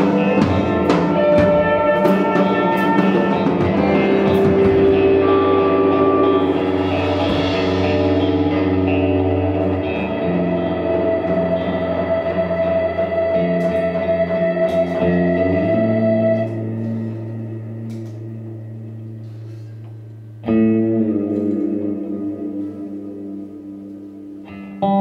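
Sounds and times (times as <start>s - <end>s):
improvised electric guitar music: 0.0s - 25.0s.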